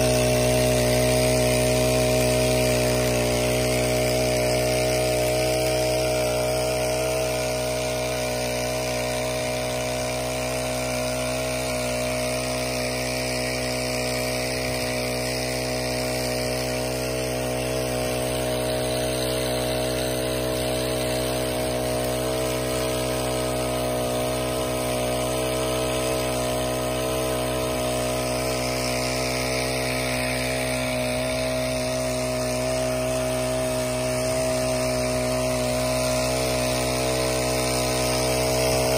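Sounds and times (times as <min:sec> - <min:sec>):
water jet spraying: 0:00.0 - 0:38.9
water pump engine running: 0:00.0 - 0:38.9.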